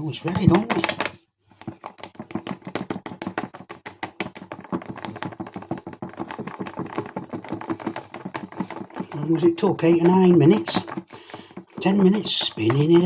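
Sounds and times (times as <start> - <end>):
whisk clicking against jug: 0.3 - 13.0.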